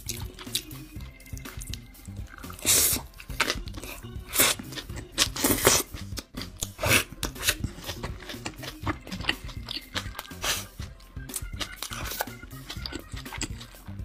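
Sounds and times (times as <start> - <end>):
chewing crunches and mouth smacks: 0.0 - 14.0.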